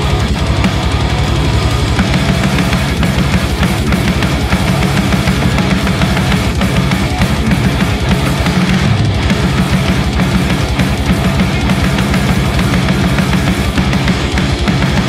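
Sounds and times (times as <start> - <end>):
fast kick drum pulse: 0.0 - 15.0
heavy metal band playing: 0.0 - 15.0.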